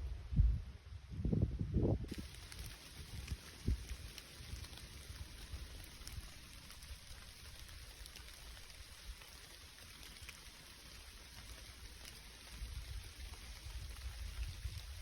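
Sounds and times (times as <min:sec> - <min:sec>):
faint rain: 0:02.1 - 0:15.0
raindrops ticking close by: 0:02.1 - 0:15.0.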